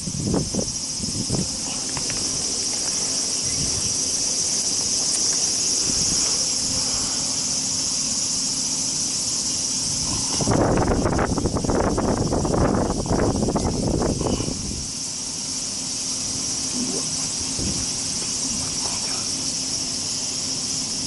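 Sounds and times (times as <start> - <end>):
insect chorus droning: 0.0 - 21.0.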